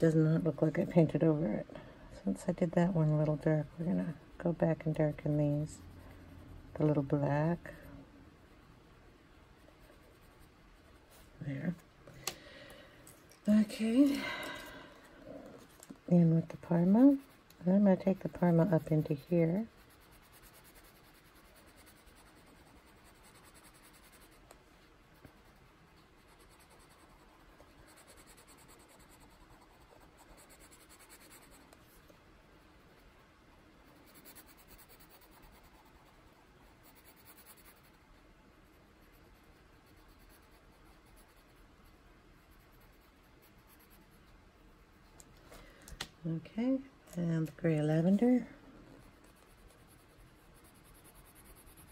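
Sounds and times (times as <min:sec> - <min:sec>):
coloured pencil scratching on paper: 0:02.3 - 0:08.7, 0:09.6 - 0:11.8, 0:15.4 - 0:33.2, 0:33.8 - 0:45.1, 0:47.6 - 0:51.9.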